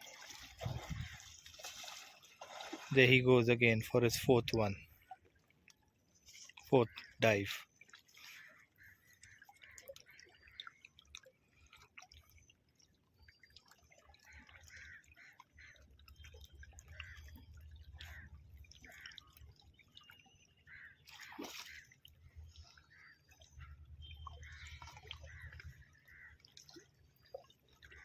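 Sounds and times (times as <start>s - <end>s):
water dripping and lapping: 0.0s - 28.0s.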